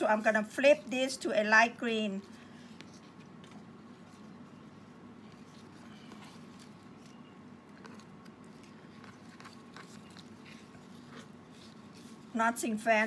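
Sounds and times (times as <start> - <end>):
steady low hum: 0.0 - 13.0
leaf strips rustling and crinkling: 2.0 - 13.0.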